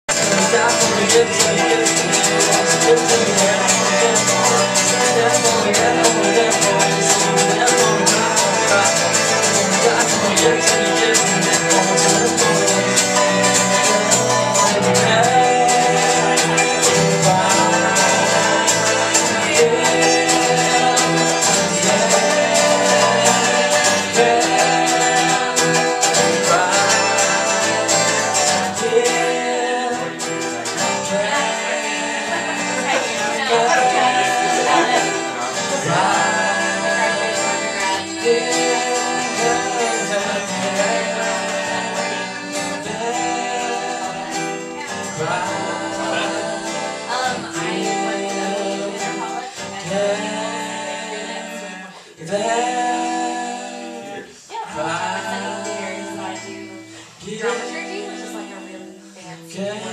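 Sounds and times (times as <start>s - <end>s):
acoustic guitar playing: 0.0s - 59.9s
person singing: 0.0s - 59.9s.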